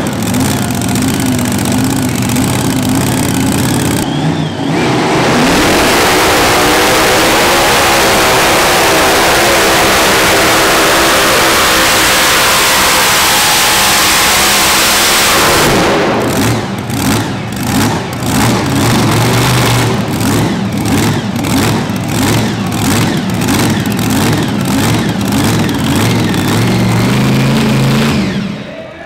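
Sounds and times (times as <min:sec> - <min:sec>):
tractor engine roaring: 0:00.0 - 0:29.0.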